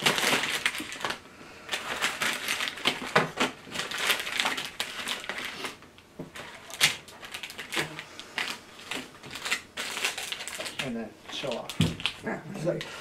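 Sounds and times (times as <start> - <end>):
plastic wrappers rustling: 0.0 - 13.0.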